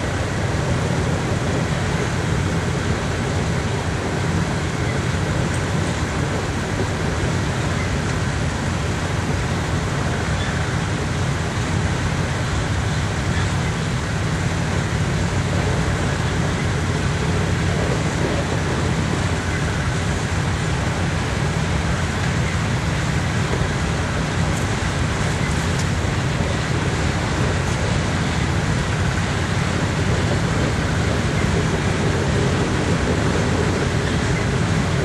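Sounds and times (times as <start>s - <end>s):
freight train rolling rumble: 0.0s - 35.0s.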